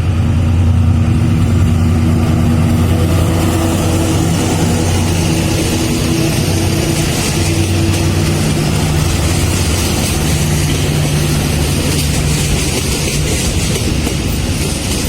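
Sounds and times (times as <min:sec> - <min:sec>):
locomotive engine drone: 0:00.0 - 0:15.0.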